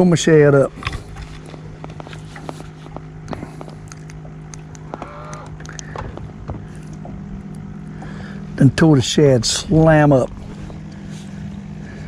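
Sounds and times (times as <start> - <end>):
steady low hum: 0.0 - 12.0
low groan-like tone: 0.7 - 12.0.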